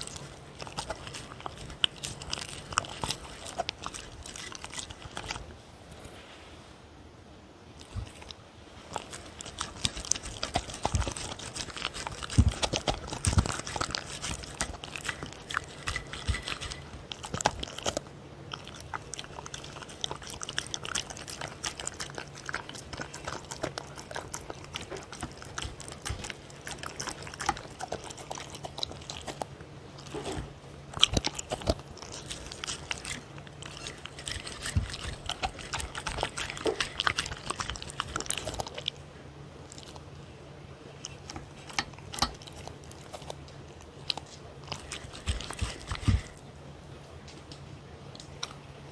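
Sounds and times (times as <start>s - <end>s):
dog chewing wet food: 0.0s - 5.5s, 7.8s - 46.5s.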